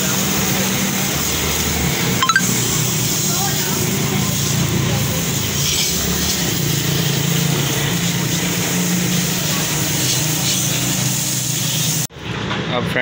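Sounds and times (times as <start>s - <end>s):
hose water spraying: 0.0s - 12.1s.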